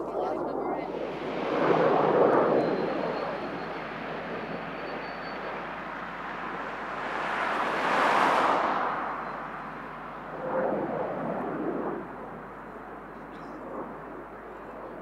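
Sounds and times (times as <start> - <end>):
jet engines flypast: 0.0 - 15.0.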